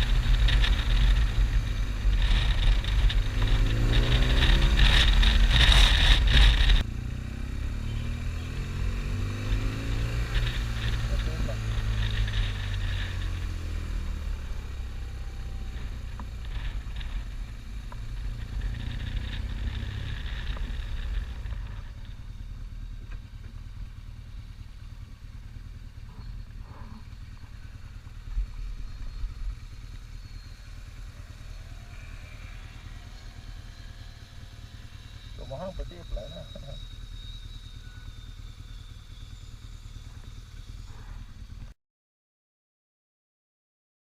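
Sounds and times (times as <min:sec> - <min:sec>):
motorcycle engine running: 0:00.0 - 0:41.8
wind and road noise: 0:00.0 - 0:41.8.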